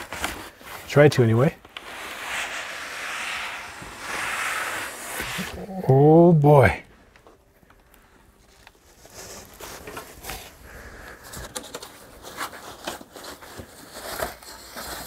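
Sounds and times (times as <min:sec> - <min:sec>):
cardboard and foam rustling: 0:00.0 - 0:05.8, 0:08.2 - 0:15.0.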